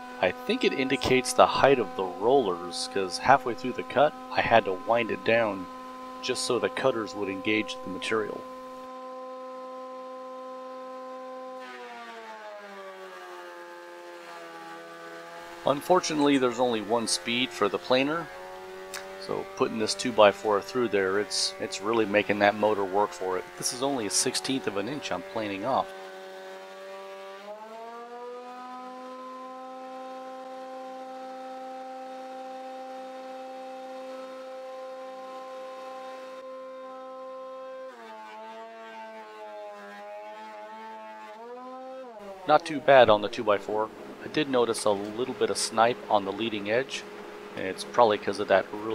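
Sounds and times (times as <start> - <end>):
planer motor whining: 0.0 - 48.9
wood cutting noise: 0.0 - 48.9.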